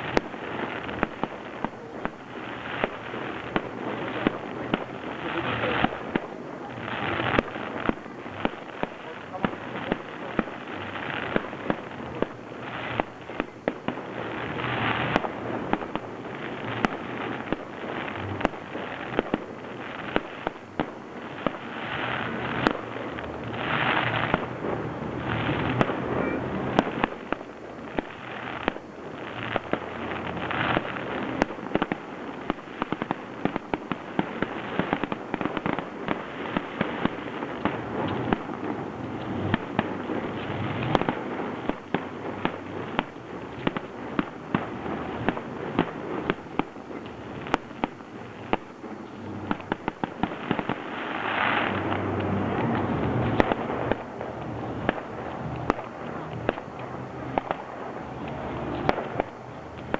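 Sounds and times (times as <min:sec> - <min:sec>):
fireworks bursting and cracking: 0:00.0 - 0:59.9
fireworks crackle: 0:00.0 - 0:59.9.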